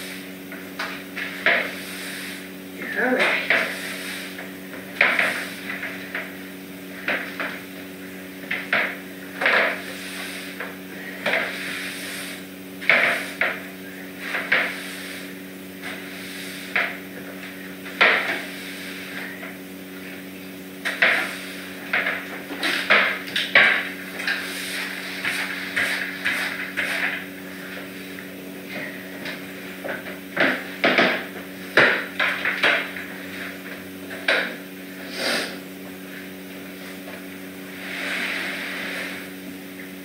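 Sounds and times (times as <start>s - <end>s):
broom sweeping a hard floor: 0.0s - 7.6s, 8.4s - 19.5s, 20.8s - 39.6s
steady low hum: 0.0s - 40.0s.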